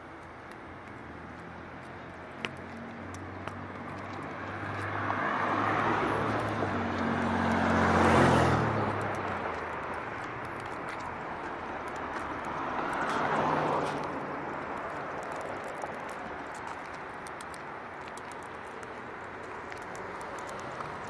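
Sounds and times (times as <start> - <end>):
footsteps on sidewalk: 0.0 - 21.0
road traffic noise: 0.0 - 21.0
vehicle passing: 1.2 - 21.0.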